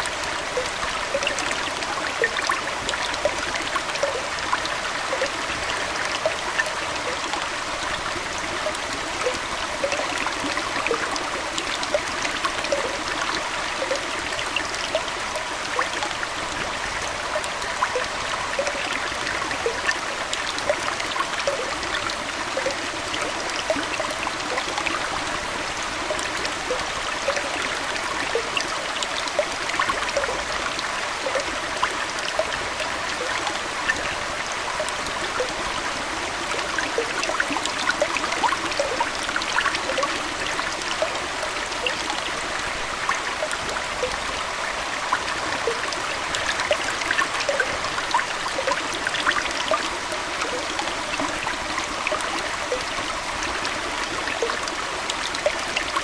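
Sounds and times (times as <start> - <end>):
aquarium water trickling: 0.0 - 56.0
water drips and bubbles: 0.0 - 56.0.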